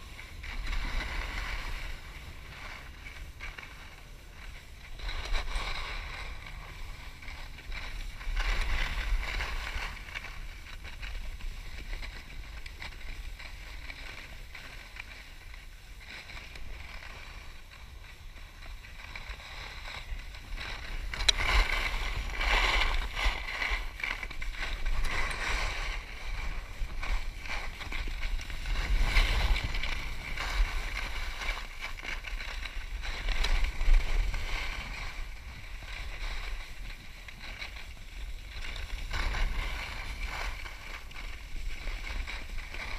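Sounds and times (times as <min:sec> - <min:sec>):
skis scraping over firm snow: 0:00.0 - 0:42.9
wind rumbling on microphone: 0:00.0 - 0:42.9.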